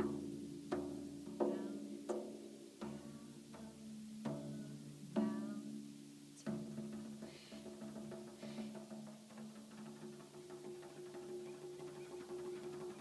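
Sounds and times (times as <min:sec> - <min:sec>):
frame drum struck by hand: 0:00.0 - 0:13.0.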